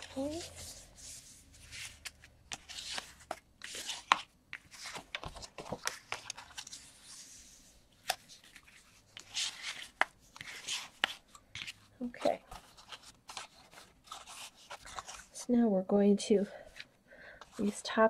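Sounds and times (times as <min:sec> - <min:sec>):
paper rustling and creasing: 0:00.0 - 0:15.5, 0:16.6 - 0:18.0.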